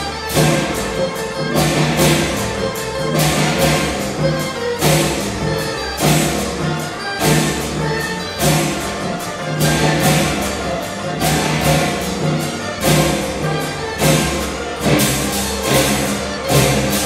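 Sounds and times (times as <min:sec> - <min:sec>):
cymbals and gongs: 0:00.0 - 0:17.0
large drums: 0:00.0 - 0:17.0
plucked and bowed strings: 0:00.0 - 0:17.0.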